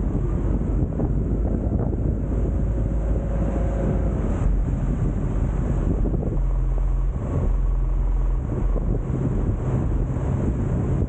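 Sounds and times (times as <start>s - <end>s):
gusty wind buffeting microphone: 0.0s - 11.0s
steady low hum: 0.0s - 11.0s.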